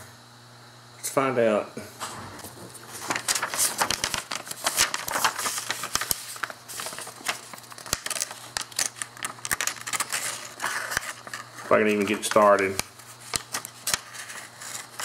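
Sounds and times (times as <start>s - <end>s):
paper rustling and crinkling: 2.4s - 15.0s.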